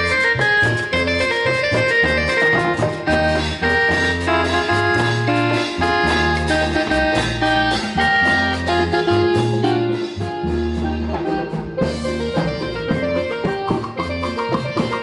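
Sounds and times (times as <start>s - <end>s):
congas: 0.0s - 15.0s
drum kit: 0.0s - 15.0s
electric bass: 0.0s - 15.0s
marimba: 0.0s - 15.0s
organ-like electronic keyboard: 0.0s - 15.0s.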